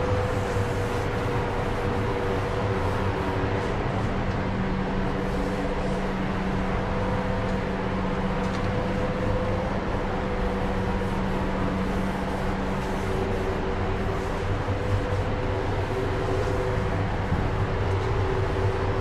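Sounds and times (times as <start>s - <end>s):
extraction fan humming: 0.0s - 19.0s.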